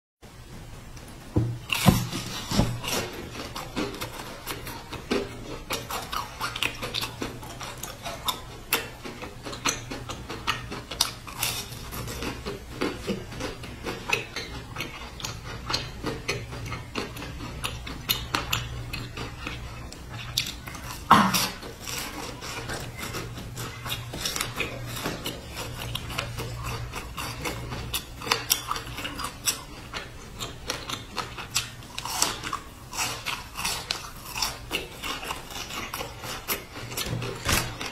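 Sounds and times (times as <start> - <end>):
biscuit crunching: 1.7 - 37.9
wet mouth clicks chewing: 3.0 - 37.9.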